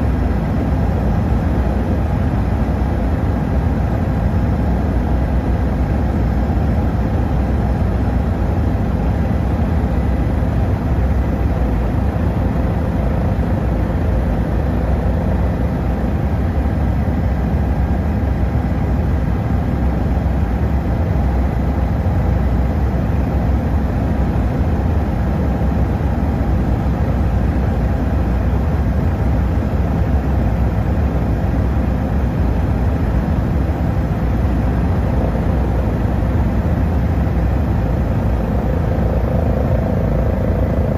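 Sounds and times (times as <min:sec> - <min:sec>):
faint steady tones: 0:00.0 - 0:40.9
helicopter engine and rotor drone: 0:00.0 - 0:40.9.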